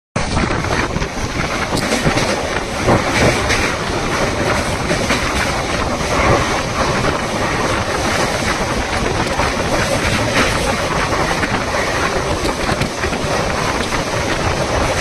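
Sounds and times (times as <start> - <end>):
train wheels clicking and knocking: 0.2 - 15.0
train wheels rumbling on rails: 0.2 - 15.0.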